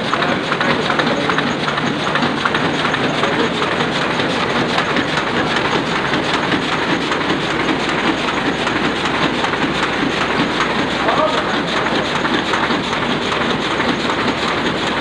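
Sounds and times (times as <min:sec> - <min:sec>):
printing press clattering: 0:00.0 - 0:15.0.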